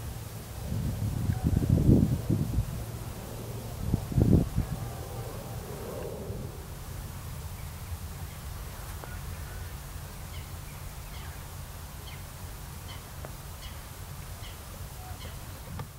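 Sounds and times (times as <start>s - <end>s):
wind rumble on microphone: 0.0s - 11.8s, 14.2s - 15.9s.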